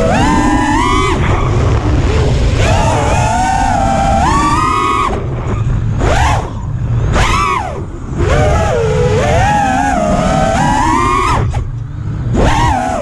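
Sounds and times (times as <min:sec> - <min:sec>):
low rumble: 0:00.0 - 0:13.0
quadcopter motors whining: 0:00.0 - 0:13.0.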